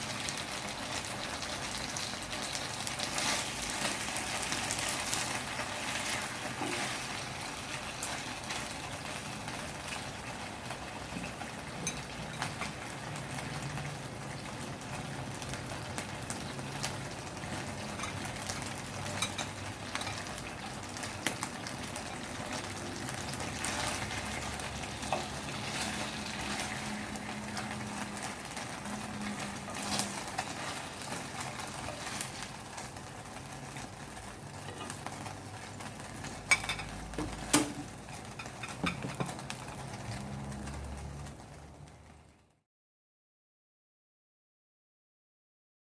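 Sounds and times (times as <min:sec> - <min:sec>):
food sizzling in a frying pan: 0:00.0 - 0:42.4.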